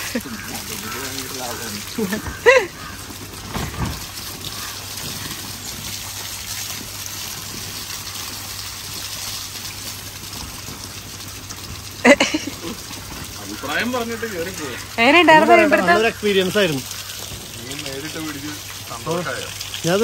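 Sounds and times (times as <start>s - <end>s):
gushing water: 0.0s - 20.0s.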